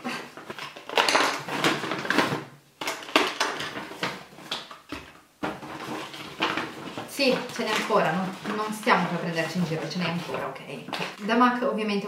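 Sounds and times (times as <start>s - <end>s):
packaged items knocking: 0.0s - 11.2s
paper bag rustling and crinkling: 0.0s - 11.2s.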